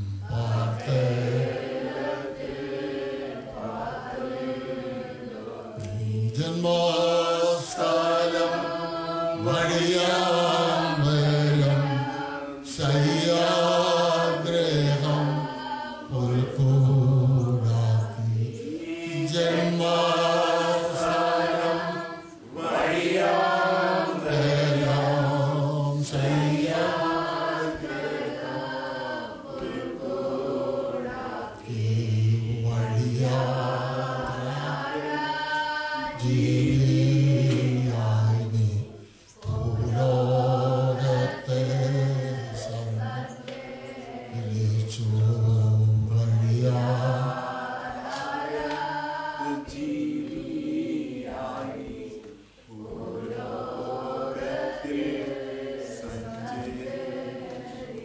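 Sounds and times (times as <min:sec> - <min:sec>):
man singing a hymn unaccompanied: 0:00.0 - 0:02.4, 0:05.6 - 0:57.8.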